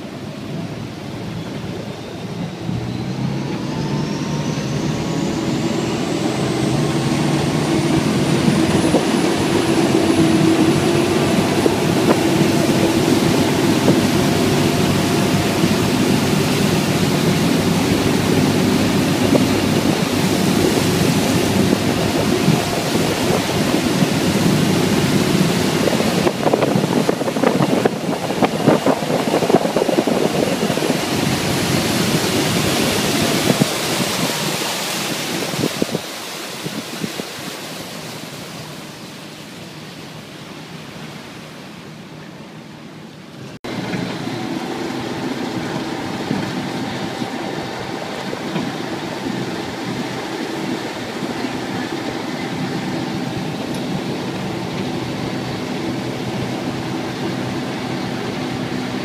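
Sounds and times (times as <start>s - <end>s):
boat engine running: 0.0s - 59.0s
churning water wake: 0.0s - 59.0s
wind on microphone: 0.2s - 38.4s, 43.6s - 59.0s.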